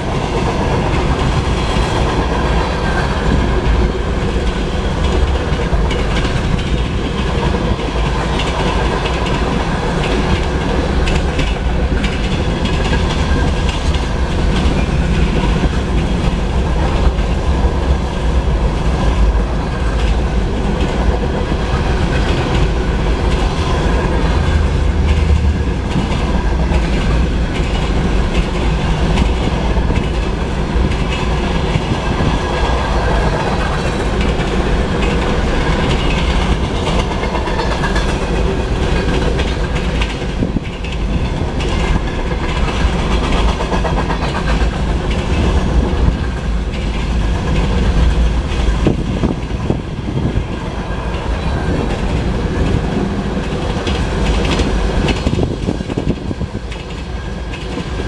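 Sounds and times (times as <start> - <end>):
train wheels rumbling on rails: 0.0 - 58.0
wheels clacking over rail joints: 0.0 - 58.0.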